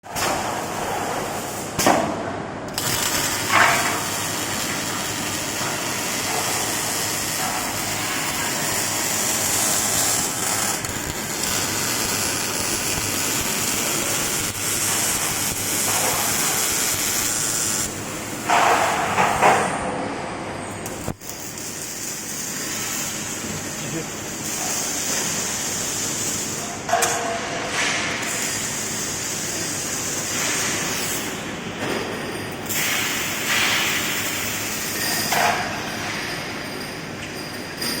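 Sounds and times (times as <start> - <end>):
welding hiss and crackle: 0.1 - 1.8, 2.7 - 19.6, 20.8 - 31.5, 32.6 - 36.5.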